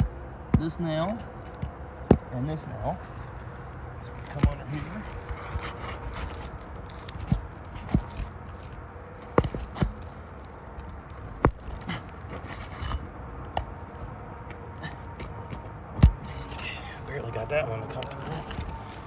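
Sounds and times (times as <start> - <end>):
tool scraping under shingle: 0.0 - 19.0.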